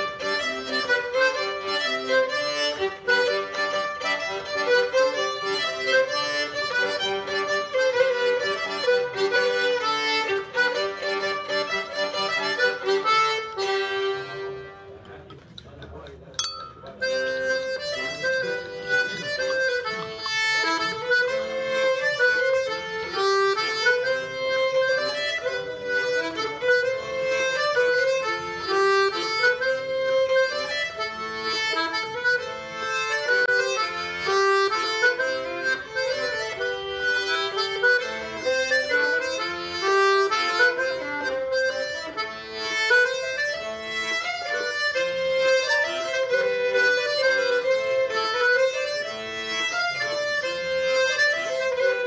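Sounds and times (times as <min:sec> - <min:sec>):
accordion dance tune: 0:00.0 - 0:15.1, 0:16.7 - 0:52.0.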